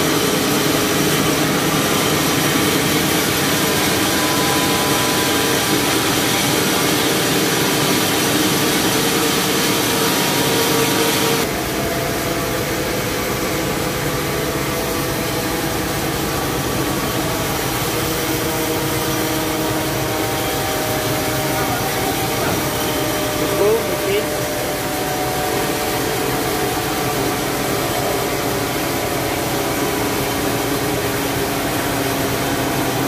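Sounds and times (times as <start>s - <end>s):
band sawmill cutting log: 0.0s - 33.0s.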